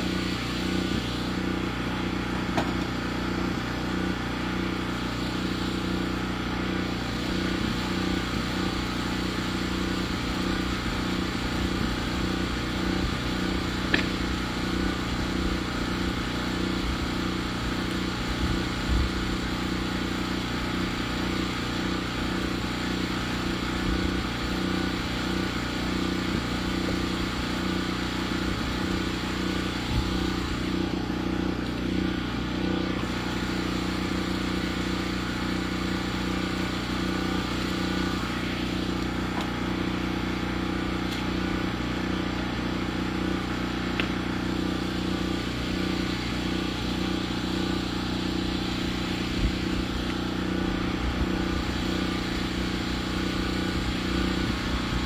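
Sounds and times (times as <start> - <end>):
sawmill engine running steadily: 0.0 - 55.0.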